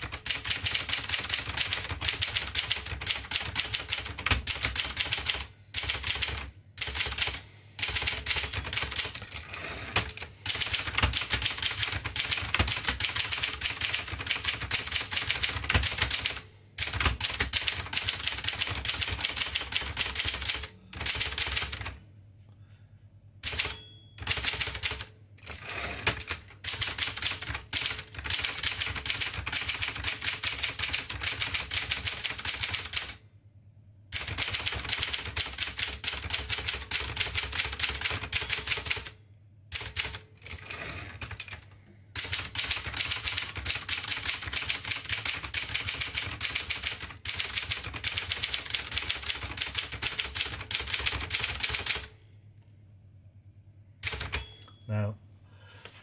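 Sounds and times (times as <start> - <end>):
manual typewriter typing: 0.0 - 22.0, 23.4 - 33.2, 34.1 - 52.2, 54.0 - 54.5.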